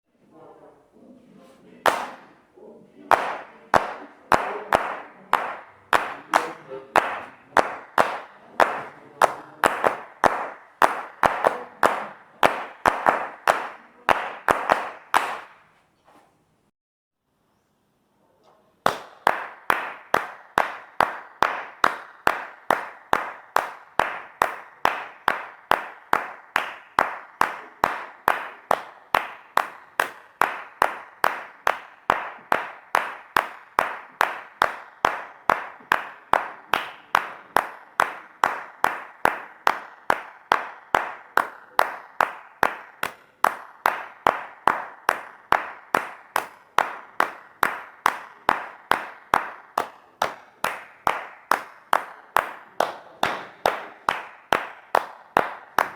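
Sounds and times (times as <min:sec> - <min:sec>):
hand claps: 0:01.8 - 0:02.5, 0:03.1 - 0:15.8, 0:18.8 - 0:55.9.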